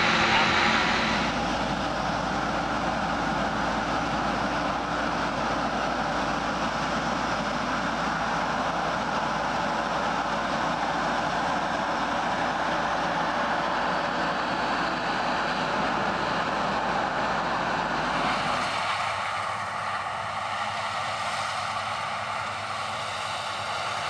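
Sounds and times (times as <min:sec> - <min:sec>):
tractor running: 0:00.0 - 0:24.0.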